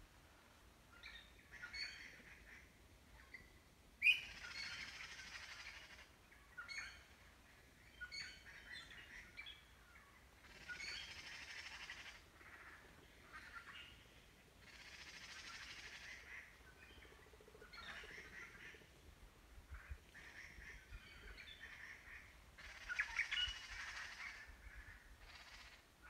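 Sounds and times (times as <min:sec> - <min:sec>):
birds trilling and chirping: 0:04.0 - 0:25.8.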